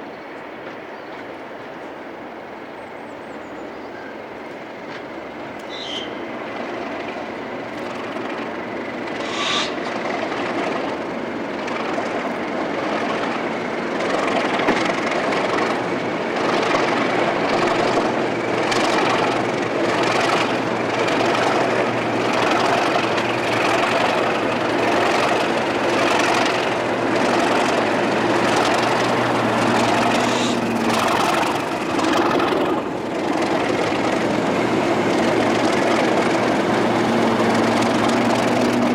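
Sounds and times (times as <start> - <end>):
diesel locomotive engine: 0.0 - 38.9.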